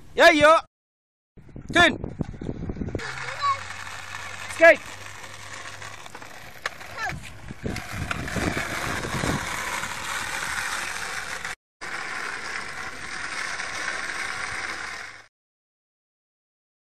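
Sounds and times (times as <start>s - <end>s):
skateboard rolling on asphalt: 1.7s - 15.3s.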